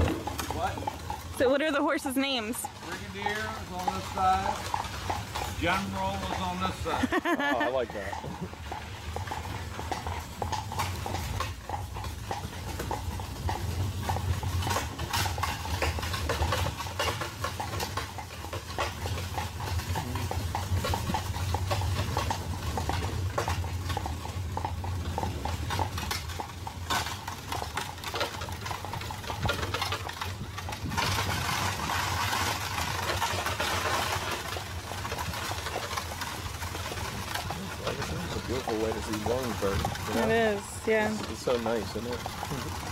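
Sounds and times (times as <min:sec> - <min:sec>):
carriage rolling rumble: 0:00.0 - 0:42.9
horse hooves clip-clopping: 0:00.0 - 0:42.9.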